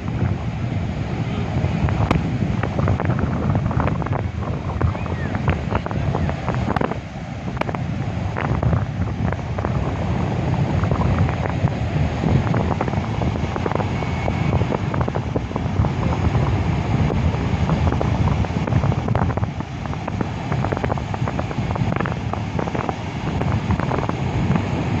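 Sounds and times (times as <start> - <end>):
sea surf: 0.0 - 25.0
wind buffeting microphone: 0.0 - 25.0.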